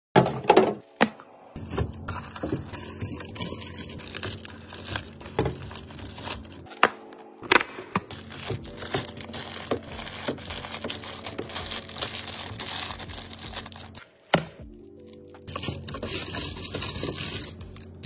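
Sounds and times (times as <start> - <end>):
plastic wrappers crinkling: 1.6 - 18.0.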